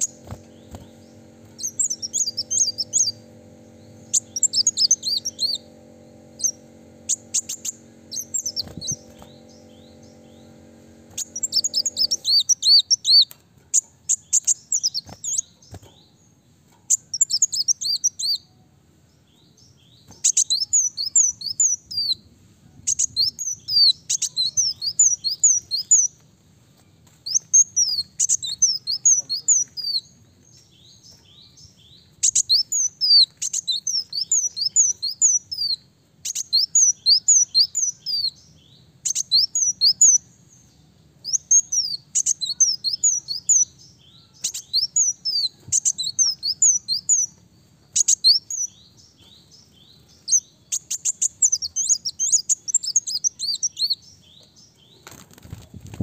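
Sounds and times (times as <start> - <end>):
sunbird singing high chirps: 0.0 - 26.2, 27.2 - 55.0.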